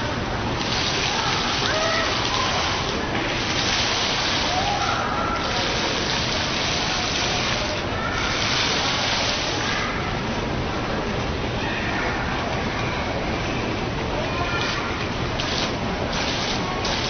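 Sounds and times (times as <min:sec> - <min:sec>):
water fountain splashing: 0:00.0 - 0:11.2, 0:12.3 - 0:17.0.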